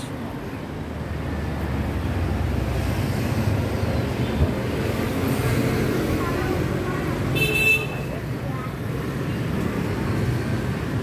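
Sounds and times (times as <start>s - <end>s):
passing traffic hum: 0.0s - 11.0s.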